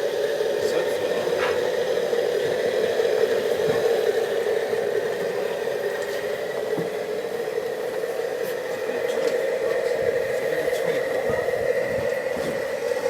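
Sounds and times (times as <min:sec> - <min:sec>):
engine-like drone: 0:00.0 - 0:13.0.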